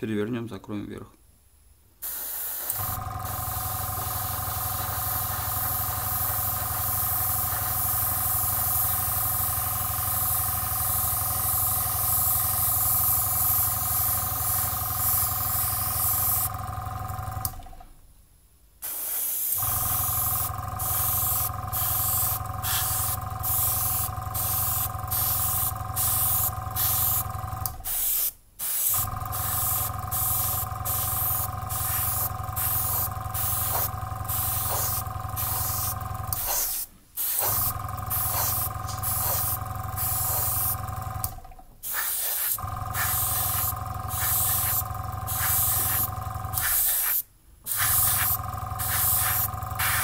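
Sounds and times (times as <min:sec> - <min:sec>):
airbrush spraying hiss: 0:02.0 - 0:16.5, 0:18.8 - 0:27.2, 0:27.8 - 0:40.8, 0:41.8 - 0:50.0.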